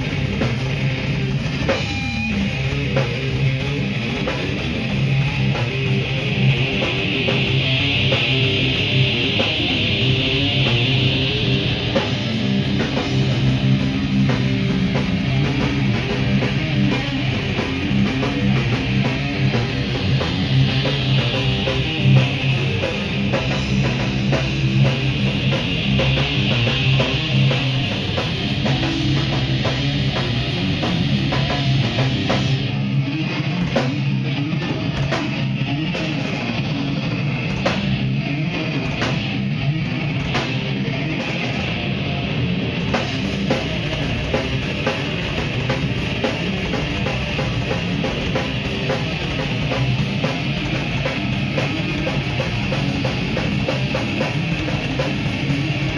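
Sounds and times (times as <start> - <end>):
heavy metal band playing live: 0.0 - 55.9.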